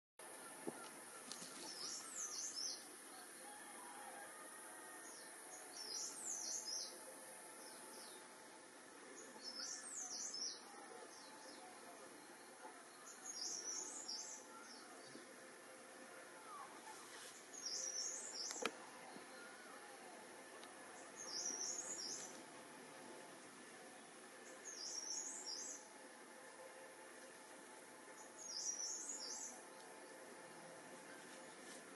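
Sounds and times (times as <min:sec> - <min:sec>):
faint background noise: 0:00.2 - 0:31.9.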